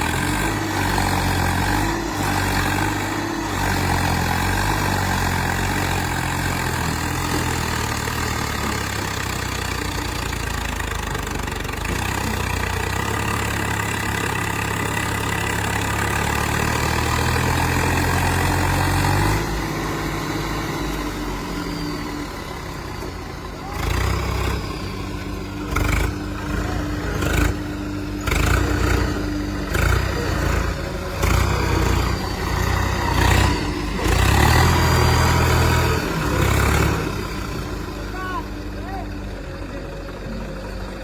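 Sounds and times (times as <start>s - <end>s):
diesel engine idling: 0.0s - 41.0s.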